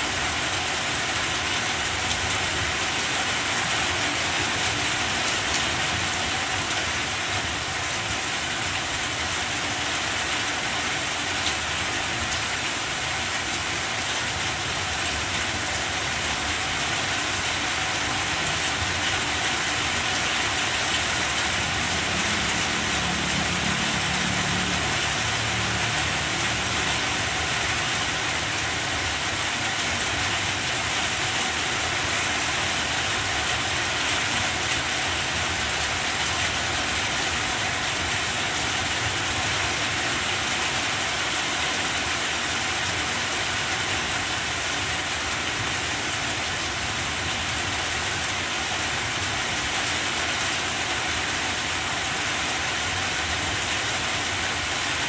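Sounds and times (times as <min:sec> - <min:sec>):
rain on broad leaves: 0:00.0 - 0:55.0.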